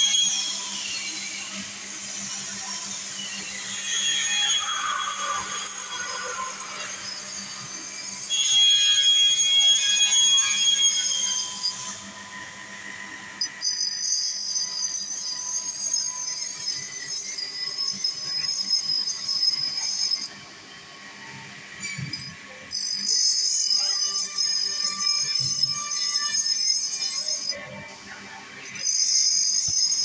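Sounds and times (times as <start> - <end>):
high-pitched grinding whine: 0.0 - 30.0.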